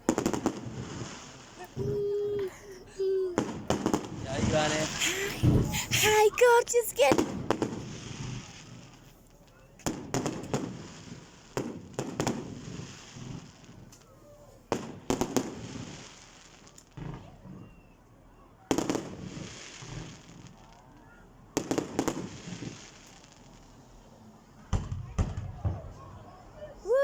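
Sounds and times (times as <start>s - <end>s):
fireworks bangs: 0.0s - 13.9s, 14.7s - 17.4s, 18.7s - 20.8s, 21.6s - 23.7s, 24.7s - 26.1s.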